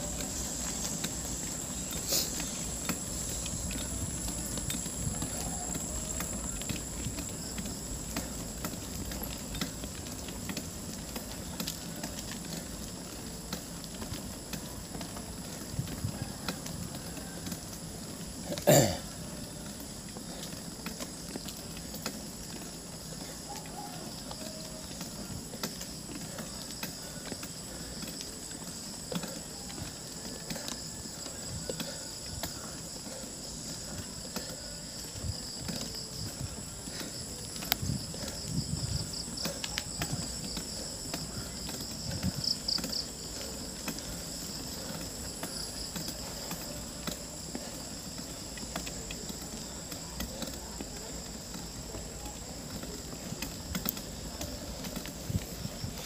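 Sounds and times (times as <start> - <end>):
high insect trill: 0.0 - 56.0.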